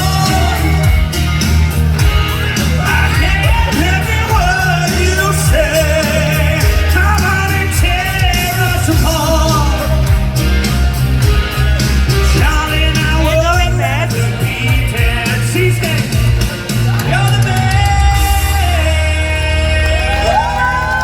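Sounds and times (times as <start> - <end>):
person singing: 0.0 - 1.3, 2.3 - 10.6, 11.2 - 20.5
rock band playing: 0.0 - 21.0.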